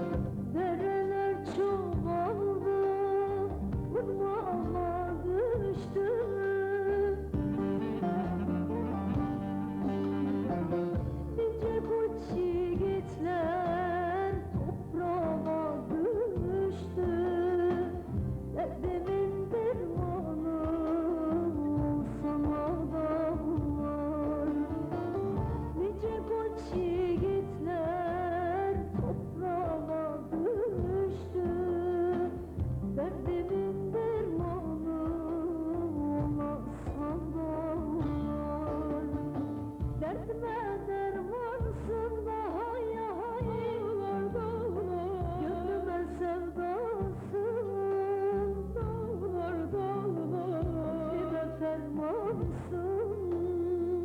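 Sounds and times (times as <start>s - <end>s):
full band backing: 0.0s - 54.0s
woman singing pop-folk song: 0.0s - 54.0s.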